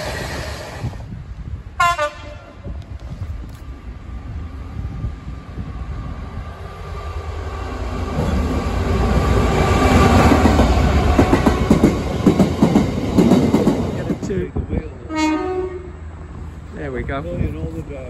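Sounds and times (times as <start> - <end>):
diesel locomotive passing: 0.0 - 18.0.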